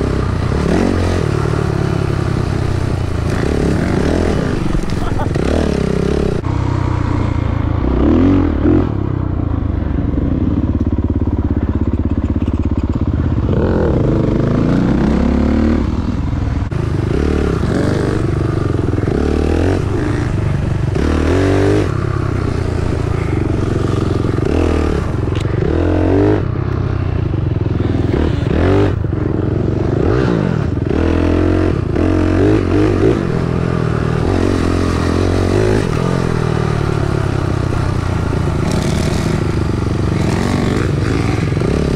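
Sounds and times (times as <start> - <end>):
dirt bike engine revving: 0.0 - 11.6, 13.2 - 41.9.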